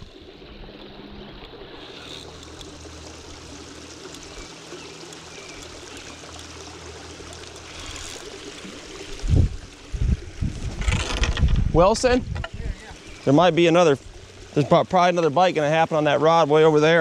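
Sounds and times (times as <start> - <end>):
low motor hum: 0.0 - 14.6
rushing water noise: 0.0 - 17.0.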